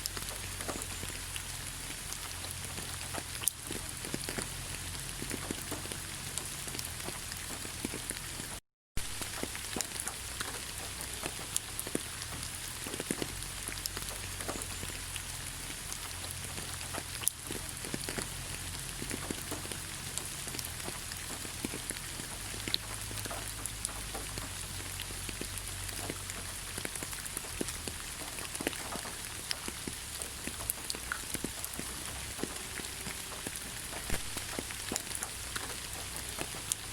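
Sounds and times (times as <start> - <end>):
rain falling in a forest: 0.0 - 36.9
raindrops ticking: 0.0 - 36.9.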